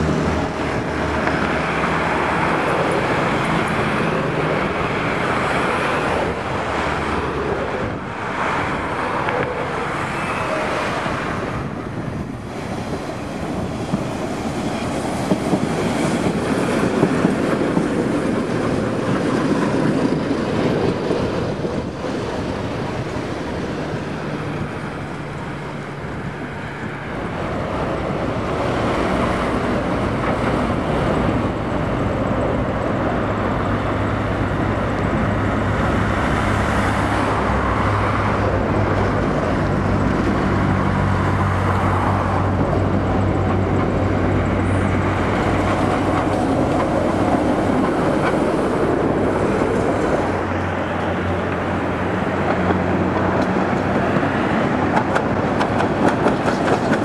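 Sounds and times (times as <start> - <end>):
tram running on track: 0.0 - 57.0.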